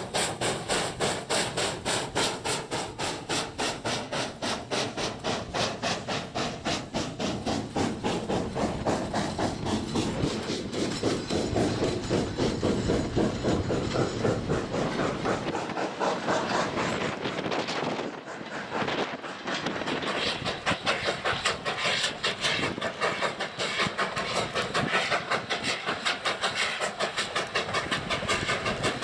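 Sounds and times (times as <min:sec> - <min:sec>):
steam locomotive exhaust chuffs: 0:00.0 - 0:29.0
train rolling noise: 0:00.0 - 0:29.0.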